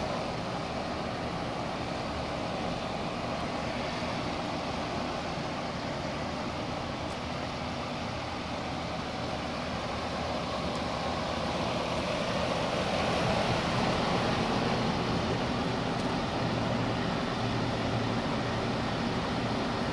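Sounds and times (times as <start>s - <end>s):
heat pump fan rushing air: 0.0s - 19.9s.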